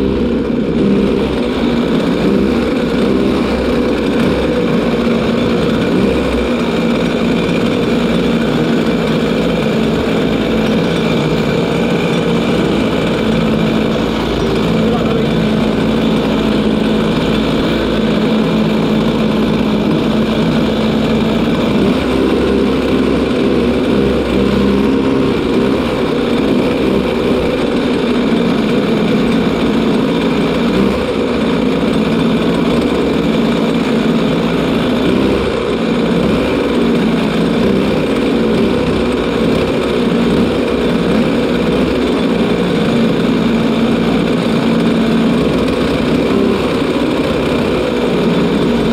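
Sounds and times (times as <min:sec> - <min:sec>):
kart engines idling: 0:00.0 - 0:48.9.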